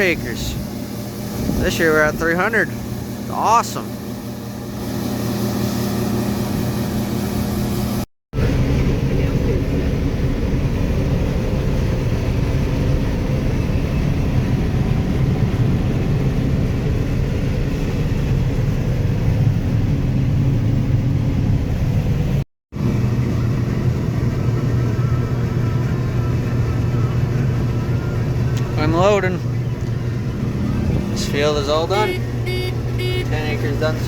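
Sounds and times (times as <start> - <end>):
harvester engine droning: 0.0 - 34.0.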